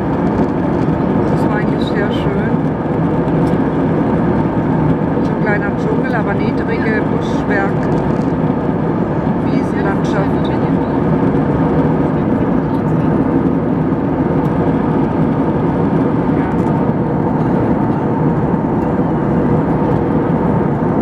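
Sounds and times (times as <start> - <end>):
jet engine cabin drone: 0.0 - 21.0.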